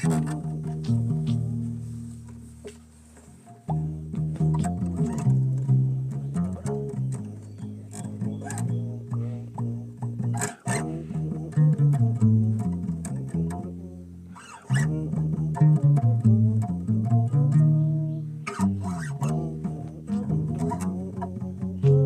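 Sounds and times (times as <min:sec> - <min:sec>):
plucked bass solo: 0:00.0 - 0:22.0.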